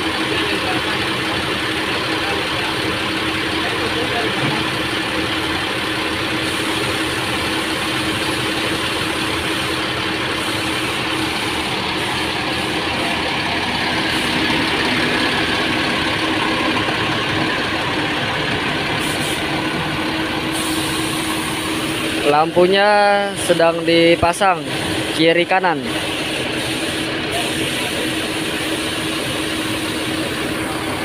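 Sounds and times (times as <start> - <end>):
diesel bus engine idling: 0.0 - 31.0.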